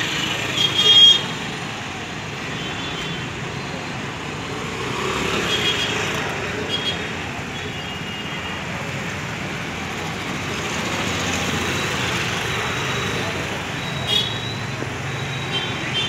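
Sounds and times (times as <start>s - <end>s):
crowd noise: 0.0s - 16.0s
motorcycle traffic: 0.0s - 16.0s.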